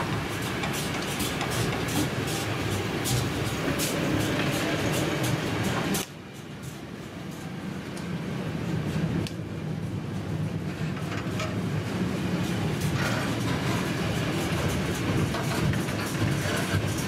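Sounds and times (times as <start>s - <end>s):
freight train passing: 0.0s - 17.0s
wheels rumbling on rails: 0.0s - 17.0s.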